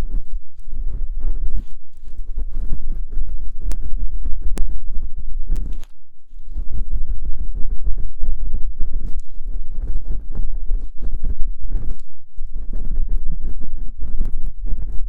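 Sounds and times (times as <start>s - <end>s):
scratching and rubbing at microphone: 0.0s - 15.0s.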